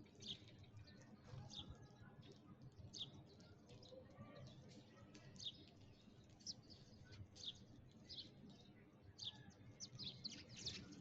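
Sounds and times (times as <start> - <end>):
sparrows chirping faintly: 0.0 - 11.0.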